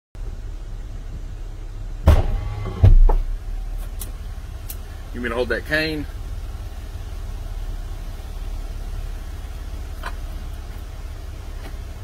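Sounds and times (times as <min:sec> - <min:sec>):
vehicle engine idling: 0:00.2 - 0:12.0.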